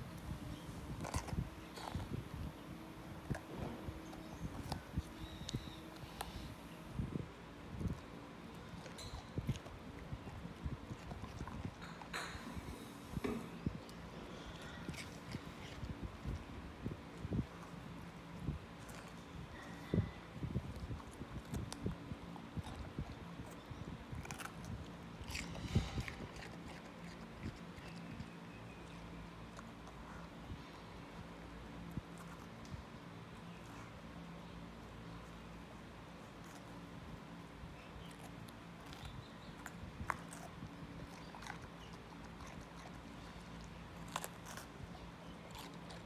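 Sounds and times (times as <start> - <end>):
dog crunching bell pepper: 0.0 - 6.8, 7.8 - 30.3, 34.8 - 46.0.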